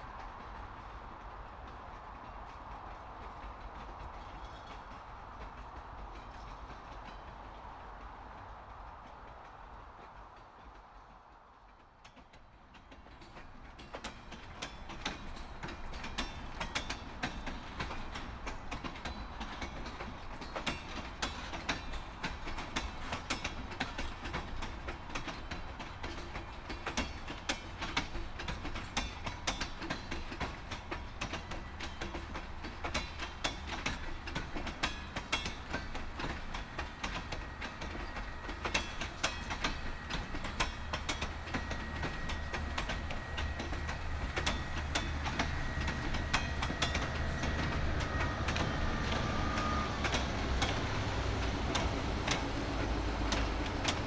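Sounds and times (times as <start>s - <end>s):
freight train wheels rattling: 0.0s - 54.0s
low train rumble: 0.0s - 54.0s.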